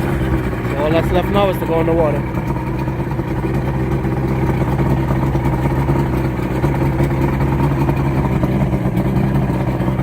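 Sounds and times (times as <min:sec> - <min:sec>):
boat motor idling: 0:00.0 - 0:10.0.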